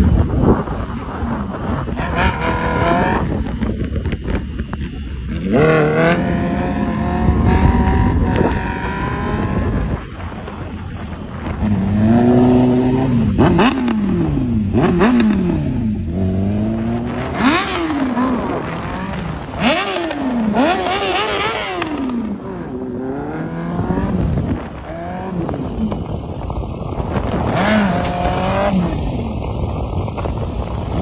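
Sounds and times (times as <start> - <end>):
motorcycle engines revving: 0.0 - 31.0.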